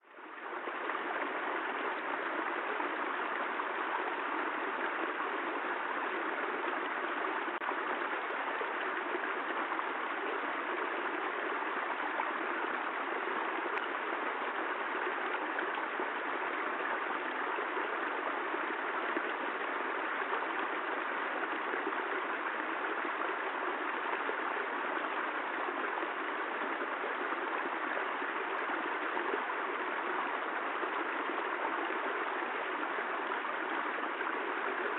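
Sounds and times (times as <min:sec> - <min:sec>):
steady rain hissing: 0:00.0 - 0:34.9.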